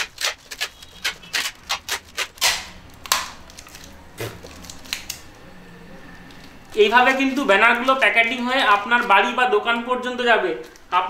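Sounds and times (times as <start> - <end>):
plastic bag crinkling: 0.0 - 5.2, 6.3 - 11.0.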